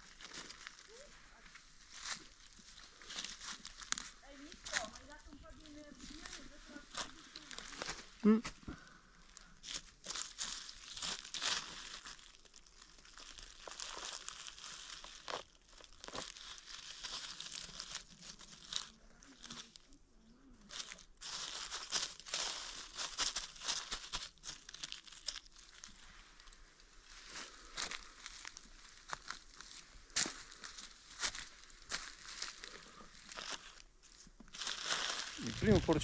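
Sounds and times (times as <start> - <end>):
dry leaves crackling and rustling: 0.0 - 36.0.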